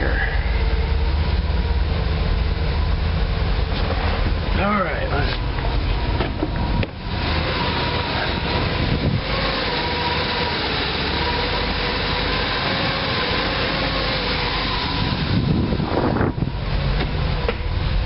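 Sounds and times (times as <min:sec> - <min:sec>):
bus engine running: 0:00.0 - 0:18.0.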